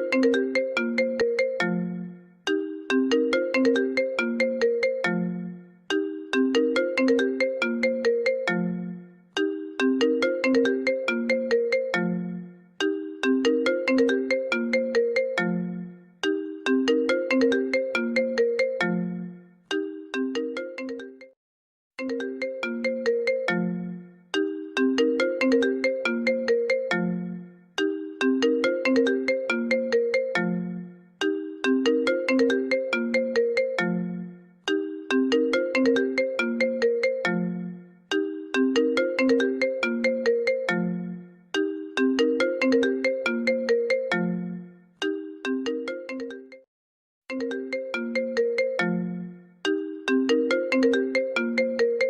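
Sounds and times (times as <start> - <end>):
phone ringtone melody: 0.0 - 21.4, 22.0 - 46.7, 47.3 - 52.0.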